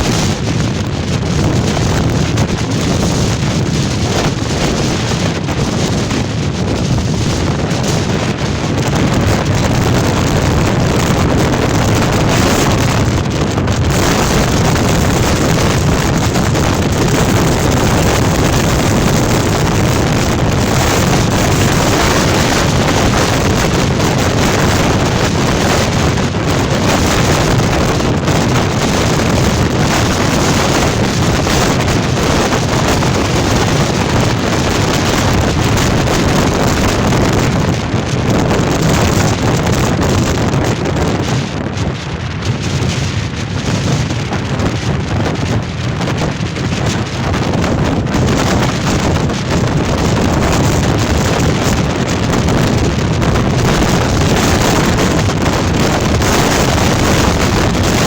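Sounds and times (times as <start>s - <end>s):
storm wind buffeting microphone: 0.0s - 58.0s.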